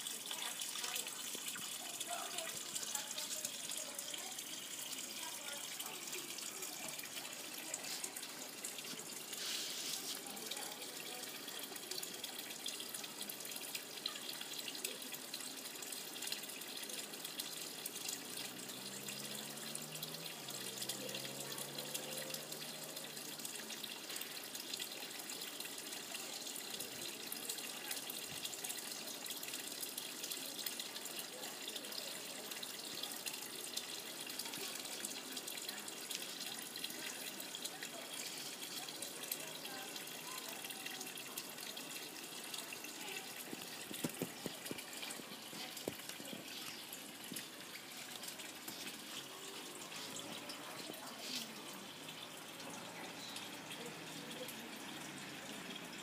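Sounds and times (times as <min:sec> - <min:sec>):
water splashing into pond: 0:00.0 - 0:56.0.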